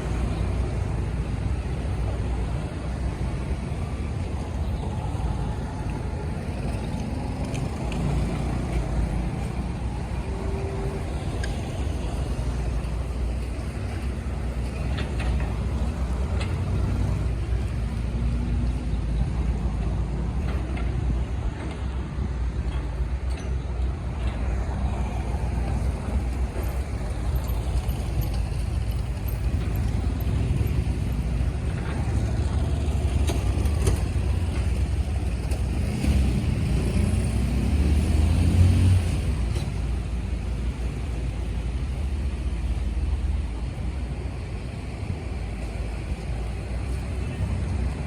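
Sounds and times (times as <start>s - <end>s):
diesel engine rumbling and revving: 0.0s - 48.0s.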